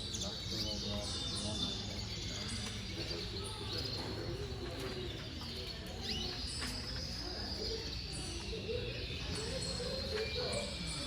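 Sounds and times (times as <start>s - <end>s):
background chatter of people: 0.0s - 11.0s
canaries chirping: 0.0s - 11.0s.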